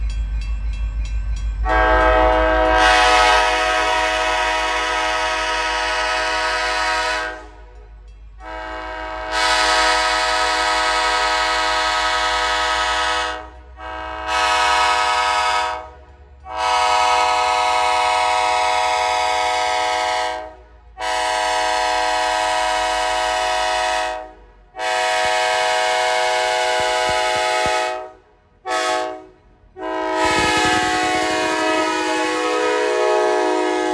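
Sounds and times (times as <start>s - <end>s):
locomotive air horn blasts: 1.6s - 7.8s, 8.4s - 33.9s.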